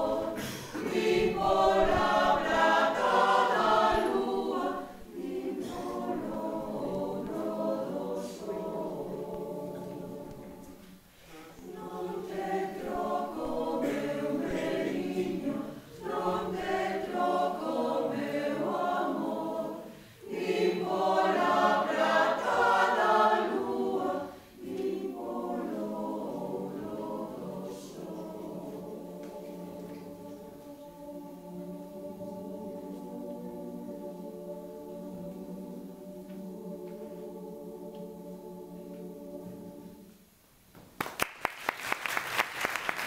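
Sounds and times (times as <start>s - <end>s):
mixed choir singing a lullaby: 0.0s - 40.4s.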